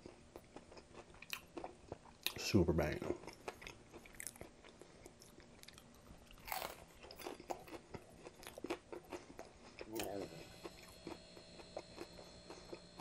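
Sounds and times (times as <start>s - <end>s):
chewing crispy fried food: 0.0s - 13.0s.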